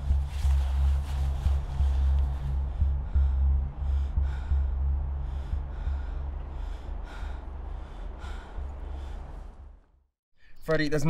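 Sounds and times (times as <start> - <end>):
steady low rumble: 0.0 - 10.1
man breathing hard: 0.4 - 10.6.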